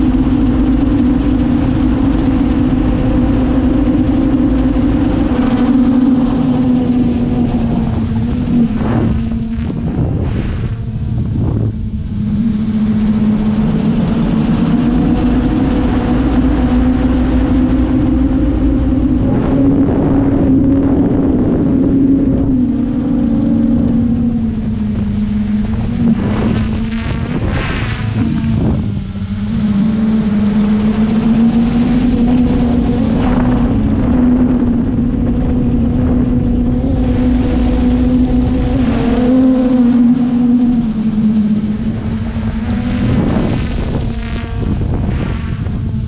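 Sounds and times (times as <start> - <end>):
drone propellers whirring: 0.0 - 46.0.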